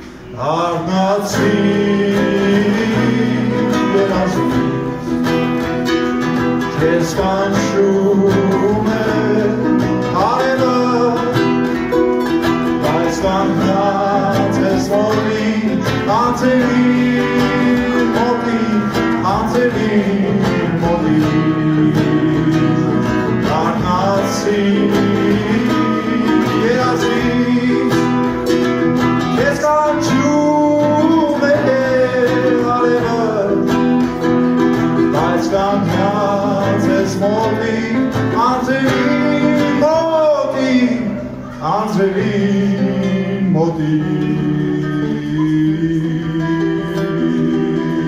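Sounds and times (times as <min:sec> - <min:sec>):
classical guitar strumming: 0:00.0 - 0:48.0
man singing: 0:00.0 - 0:48.0.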